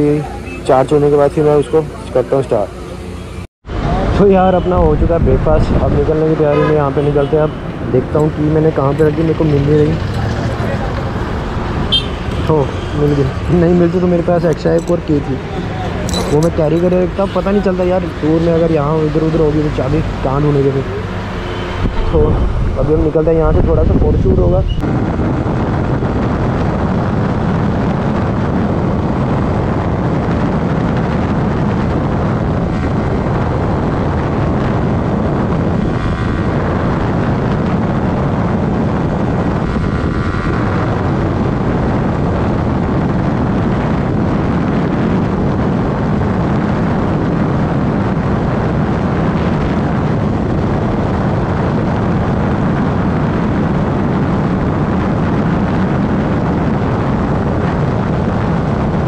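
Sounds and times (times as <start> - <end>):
wind on microphone: 3.7 - 59.0.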